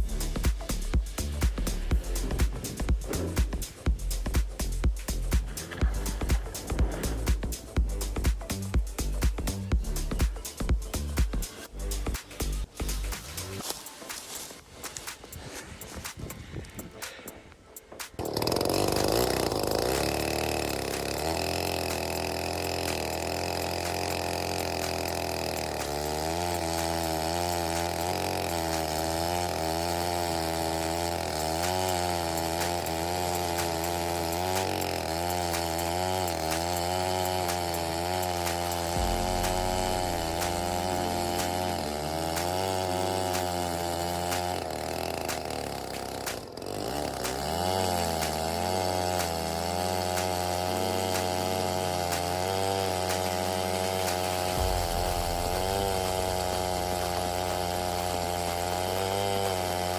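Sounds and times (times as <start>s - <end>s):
chainsaw cutting log: 0.0s - 17.4s, 18.0s - 59.9s.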